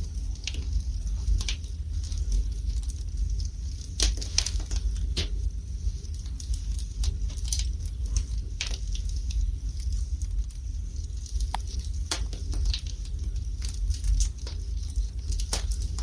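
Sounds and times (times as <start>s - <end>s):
fire crackling and popping: 0.0s - 16.0s
fire flames rumbling: 0.0s - 16.0s.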